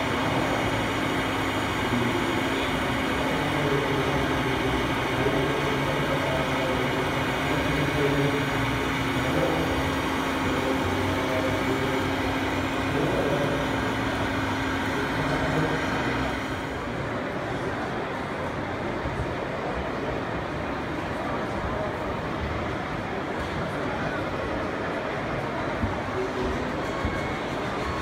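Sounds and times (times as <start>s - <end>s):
exhibition hall hum: 0.0s - 28.0s
faint indistinct voices: 0.0s - 28.0s.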